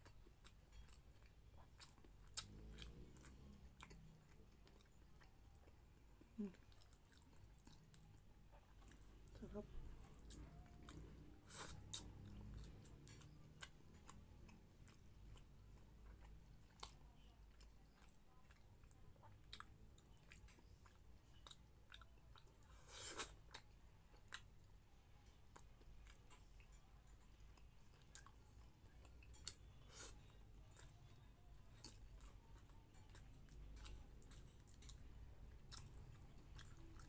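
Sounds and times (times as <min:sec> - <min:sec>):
faint chewing: 0:00.0 - 0:37.0.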